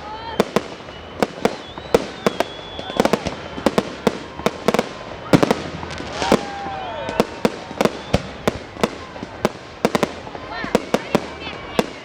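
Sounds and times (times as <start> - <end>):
firework whistle gliding down: 0.0 - 12.0
fireworks bangs and cracks: 0.0 - 12.0.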